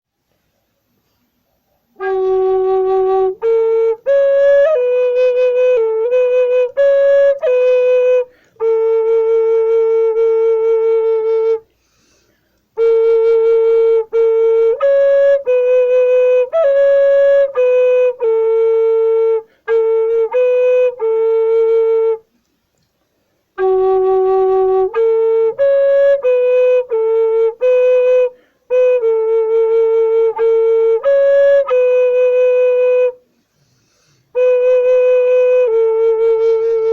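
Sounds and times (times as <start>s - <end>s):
flute-like melody: 1.8s - 11.8s, 12.7s - 22.4s, 23.5s - 36.9s.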